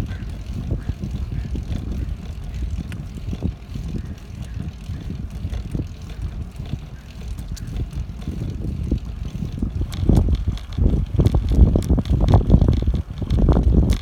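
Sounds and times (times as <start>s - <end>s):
bicycle tyre and frame noise: 0.0s - 14.0s
wind buffeting microphone: 0.0s - 14.0s.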